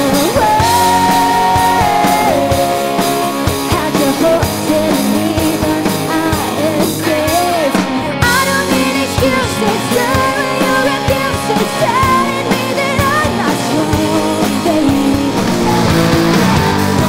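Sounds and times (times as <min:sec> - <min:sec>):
woman singing lead: 0:00.0 - 0:16.6
live rock band playing: 0:00.0 - 0:17.0.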